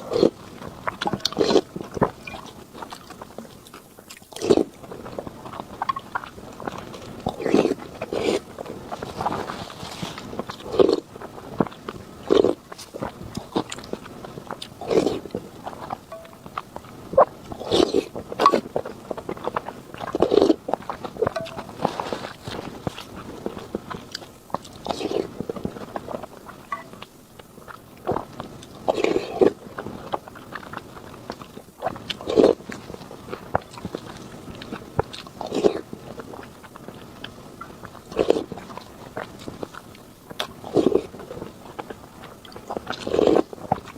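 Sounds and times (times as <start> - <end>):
person chewing with mouth clicks: 0.0 - 43.9.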